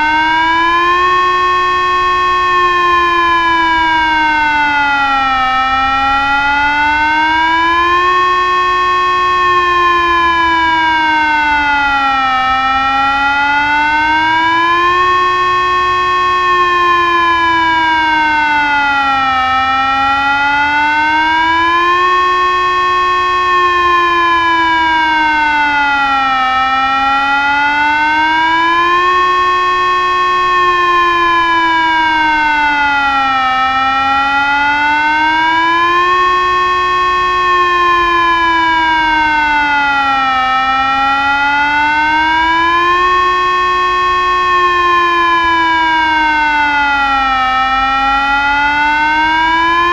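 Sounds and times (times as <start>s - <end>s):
wavering siren tone: 0.0s - 49.9s.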